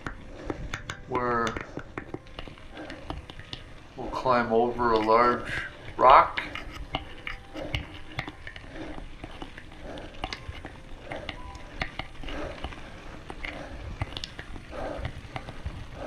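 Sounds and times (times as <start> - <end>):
bike clicking and rattling: 0.0 - 16.0.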